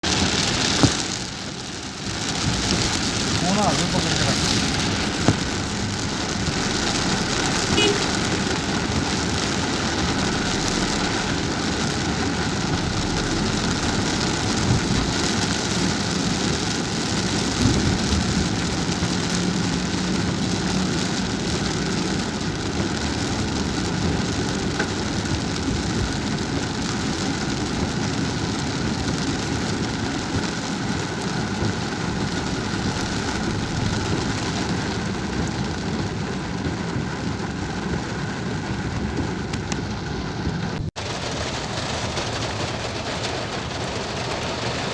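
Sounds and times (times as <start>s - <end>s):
car engine: 0.0s - 44.9s
rain falling on a car: 0.0s - 44.9s
road noise: 0.0s - 44.9s.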